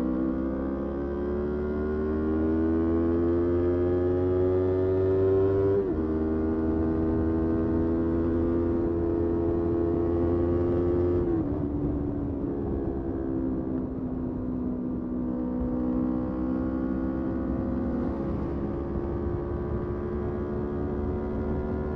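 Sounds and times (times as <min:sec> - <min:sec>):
motorcycle engine accelerating: 0:00.1 - 0:21.9.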